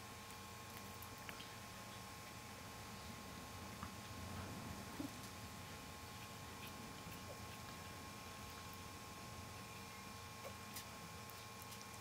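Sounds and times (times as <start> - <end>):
faint high hum: 0.0 - 12.0.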